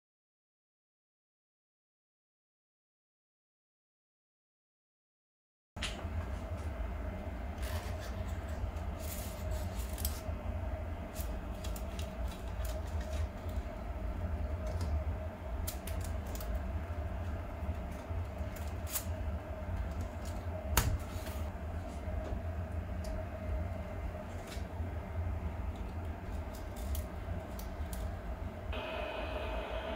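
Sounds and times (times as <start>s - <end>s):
steady hum: 5.8s - 29.9s.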